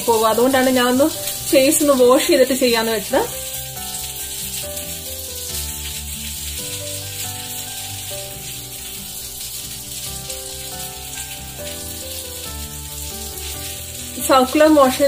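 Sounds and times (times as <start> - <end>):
soft instrumental music: 0.0 - 15.0.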